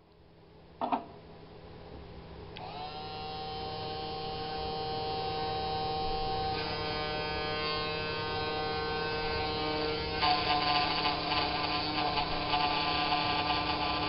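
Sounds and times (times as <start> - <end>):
small electric motor whining hum: 2.6 - 14.0.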